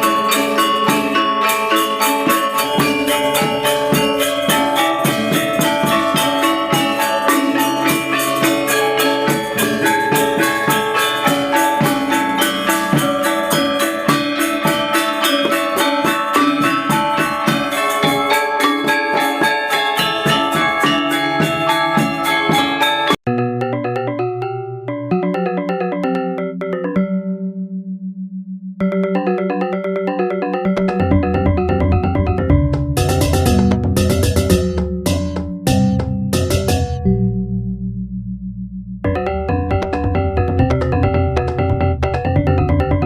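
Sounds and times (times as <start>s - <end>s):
tuned metal percussion music: 0.0s - 27.6s, 28.8s - 37.5s, 39.0s - 43.0s.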